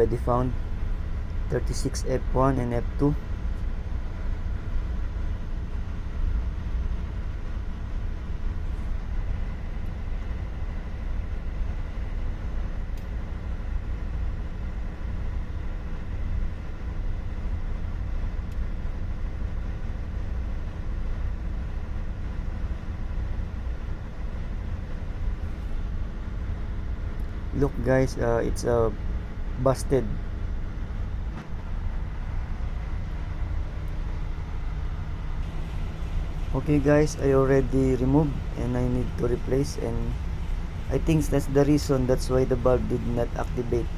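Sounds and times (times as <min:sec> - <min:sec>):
constant hum: 0:00.0 - 0:43.9
ship machinery drone: 0:00.0 - 0:43.9.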